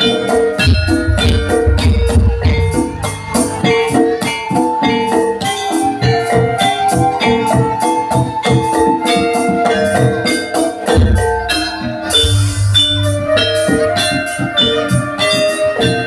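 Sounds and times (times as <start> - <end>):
gamelan ensemble with drums: 0.0 - 16.0.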